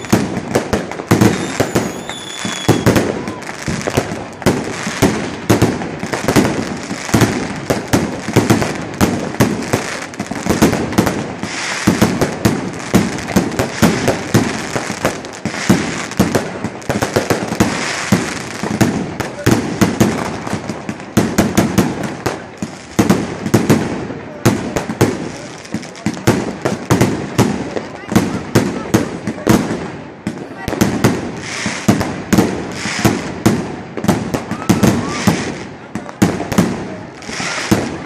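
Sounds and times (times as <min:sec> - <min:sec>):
firework cake firing bangs: 0:00.0 - 0:38.0.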